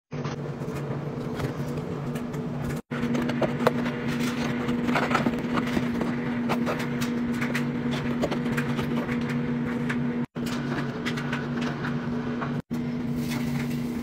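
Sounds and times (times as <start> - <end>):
steady machine hum: 0.1 - 14.0.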